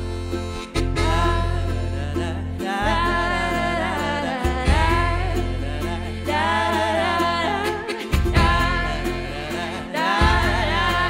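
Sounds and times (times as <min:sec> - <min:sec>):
low bass notes: 0:00.0 - 0:11.0
person singing a melody: 0:00.8 - 0:11.0.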